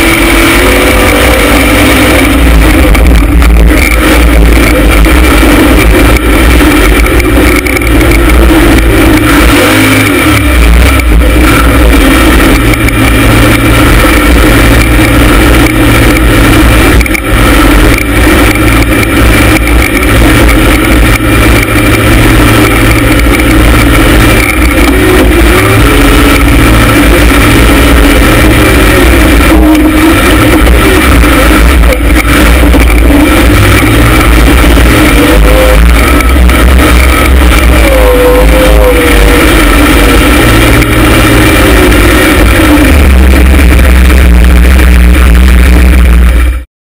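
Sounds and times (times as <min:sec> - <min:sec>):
vee eight engine revving: 0:00.0 - 0:47.0.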